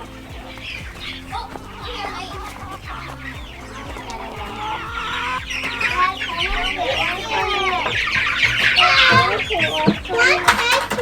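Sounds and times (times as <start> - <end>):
chicks peeping and clucking: 0.0 - 11.0.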